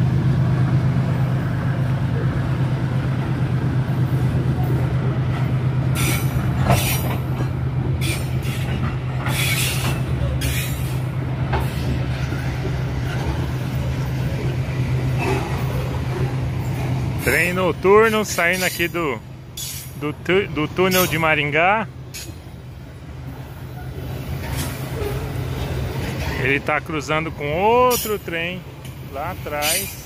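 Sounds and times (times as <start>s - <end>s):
diesel locomotive drone: 0.0s - 30.0s
wheels squealing on rails: 4.2s - 22.5s, 23.3s - 30.0s.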